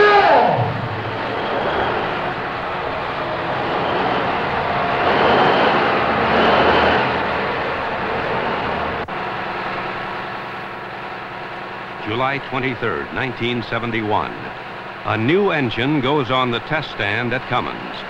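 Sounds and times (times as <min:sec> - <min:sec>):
diesel engine running: 0:00.2 - 0:18.0.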